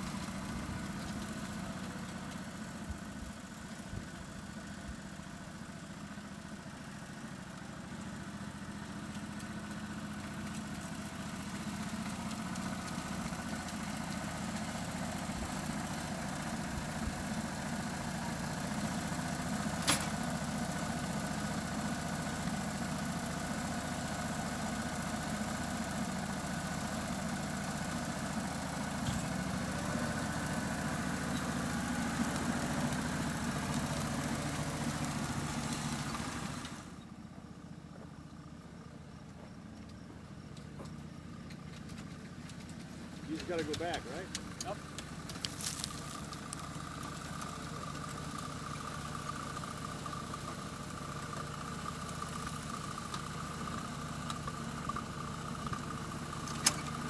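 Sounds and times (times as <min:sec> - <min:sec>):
model locomotive engine hum: 0:00.0 - 0:57.0.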